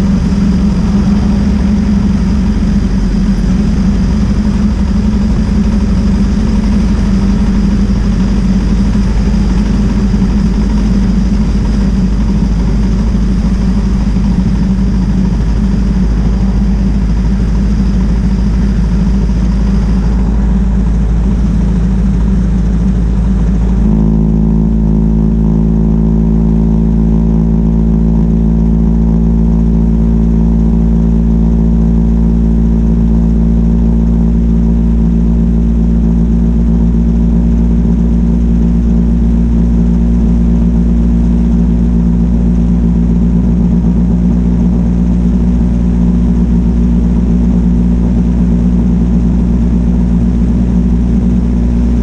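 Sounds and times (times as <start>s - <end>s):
car engine running steadily: 0.0s - 52.0s
wind and road noise: 0.0s - 52.0s.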